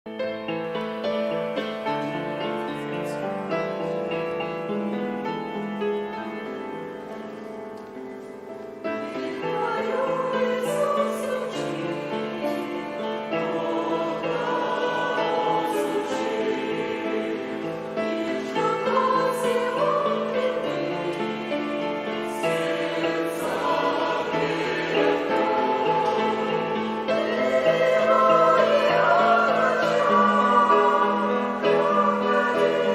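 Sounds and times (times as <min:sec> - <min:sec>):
keyboard accompaniment: 0:00.1 - 0:32.9
choir singing a hymn: 0:00.6 - 0:07.0, 0:08.8 - 0:32.9.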